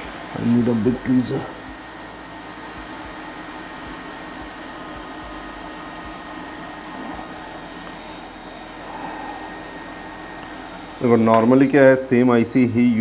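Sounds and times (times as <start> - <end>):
hot air blower blowing: 0.0 - 13.0.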